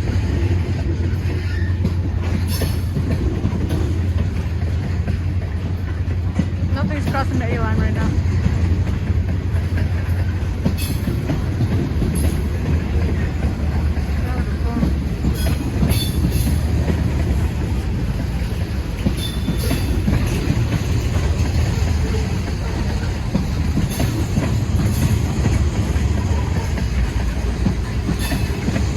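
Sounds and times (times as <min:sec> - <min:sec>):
train rumbling past: 0:00.0 - 0:28.9
wheels clicking over rail joints: 0:00.0 - 0:28.9.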